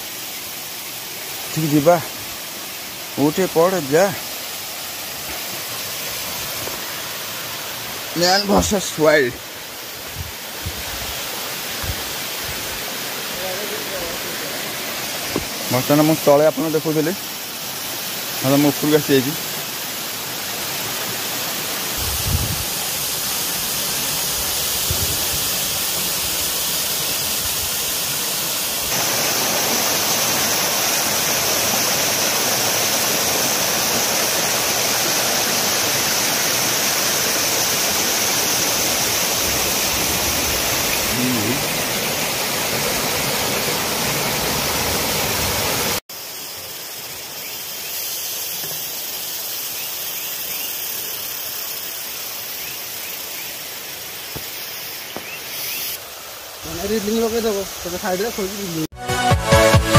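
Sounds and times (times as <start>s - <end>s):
waterfall rushing over boulders: 0.0s - 58.9s.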